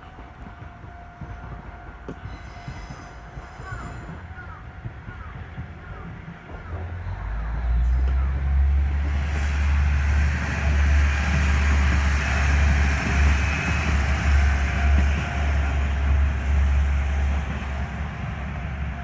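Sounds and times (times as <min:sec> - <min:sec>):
train rumbling over rails: 0:00.0 - 0:19.0.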